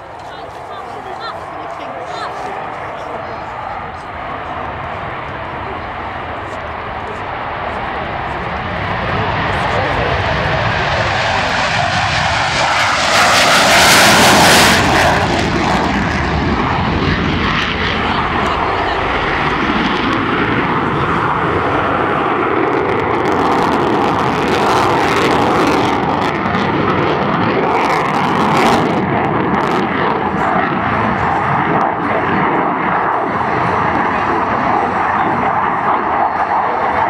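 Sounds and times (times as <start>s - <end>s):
fighter jet roar: 0.0s - 37.0s.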